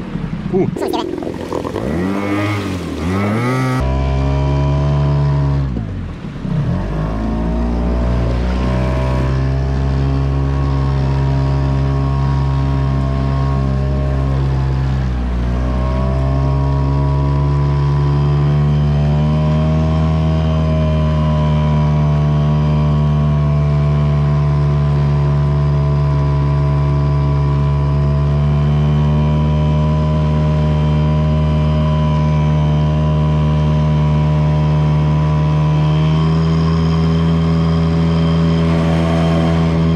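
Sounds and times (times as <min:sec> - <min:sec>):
outboard motor running: 0:00.1 - 0:39.9.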